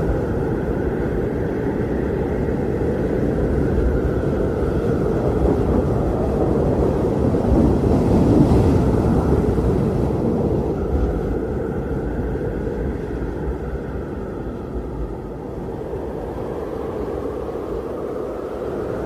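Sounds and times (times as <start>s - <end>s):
strong blizzard wind: 0.0s - 19.0s.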